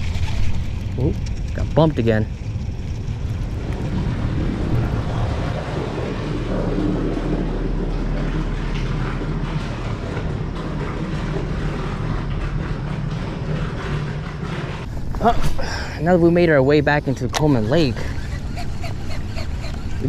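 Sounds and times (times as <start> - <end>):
boat motor droning: 0.0 - 20.0.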